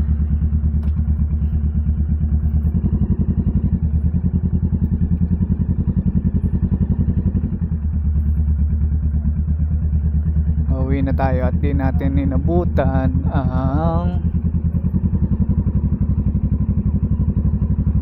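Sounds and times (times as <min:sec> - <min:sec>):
motorcycle engine pulling away: 0:00.0 - 0:18.0.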